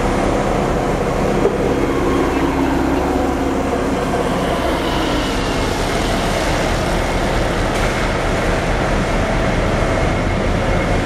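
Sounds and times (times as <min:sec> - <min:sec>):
dockside machinery running: 0:00.0 - 0:11.0
forklift engine: 0:00.0 - 0:11.0.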